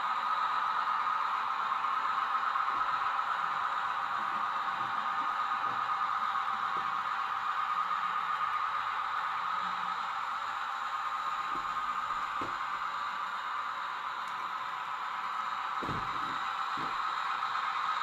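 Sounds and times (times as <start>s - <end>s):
thin hissy train running sound: 0.0s - 18.0s.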